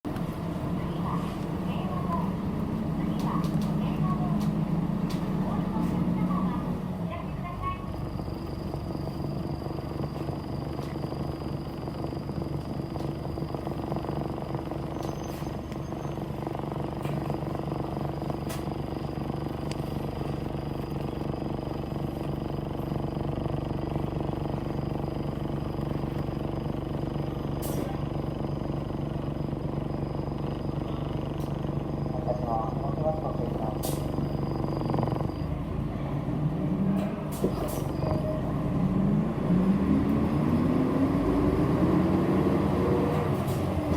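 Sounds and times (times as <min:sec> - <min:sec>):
bus engine hum: 0:00.0 - 0:43.9
road noise: 0:00.0 - 0:43.9.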